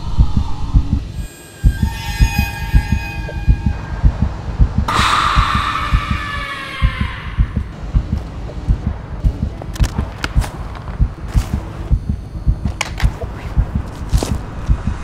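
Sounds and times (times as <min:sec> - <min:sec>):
heartbeat thuds: 0:00.0 - 0:01.1, 0:01.7 - 0:15.0.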